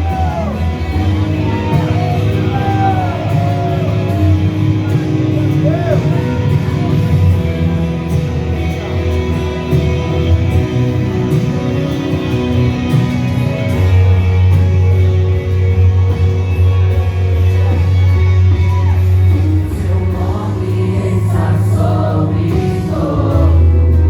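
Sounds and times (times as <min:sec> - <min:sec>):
worship band music with singing: 0:00.0 - 0:24.0.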